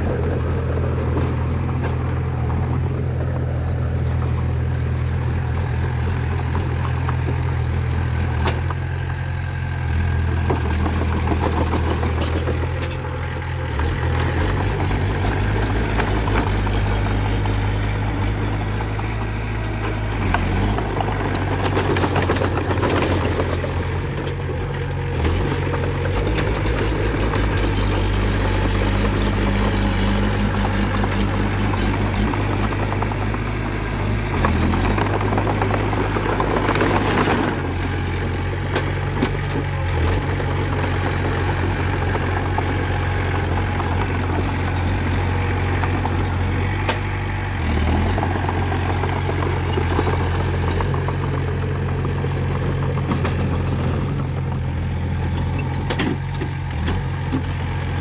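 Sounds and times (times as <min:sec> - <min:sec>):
heavy diesel engine running: 0:00.0 - 0:58.0
machinery rattling and clanking: 0:00.0 - 0:58.0.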